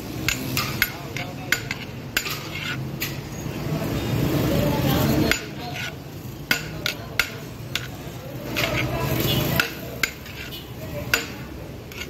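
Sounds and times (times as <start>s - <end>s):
low background murmur: 0.0s - 12.0s
steel spoon clinking on pot: 0.2s - 3.2s, 5.1s - 12.0s.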